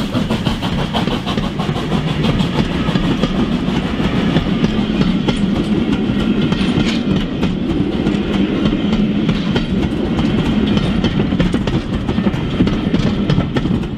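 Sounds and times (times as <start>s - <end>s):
model wagons rumbling on track: 0.0s - 13.9s
small wheels clicking over rail joints: 2.6s - 13.9s.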